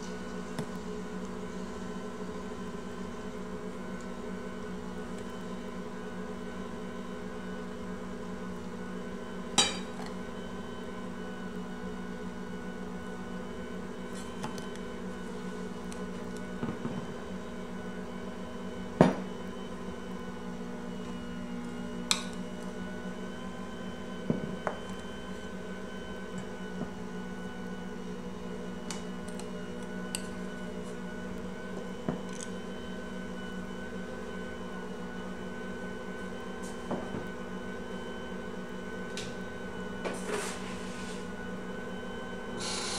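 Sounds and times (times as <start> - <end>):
steady electric hum: 0.0 - 42.9.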